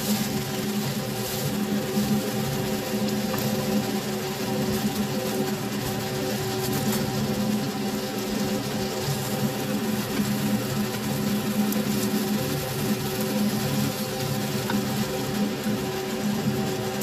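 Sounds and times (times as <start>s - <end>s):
low mechanical hum: 0.0s - 17.0s
steak sizzling in a frying pan: 0.0s - 17.0s.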